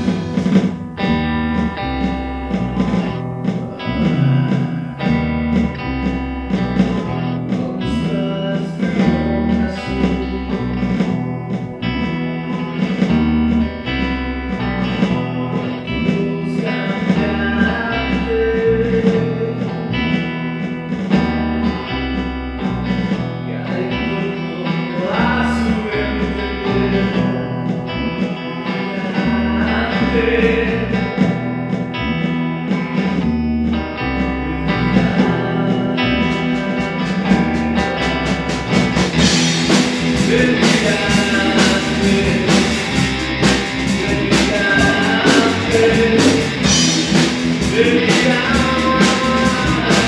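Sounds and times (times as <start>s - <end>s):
guitar glide: 0.0s - 50.0s
rock band playing: 0.0s - 50.0s.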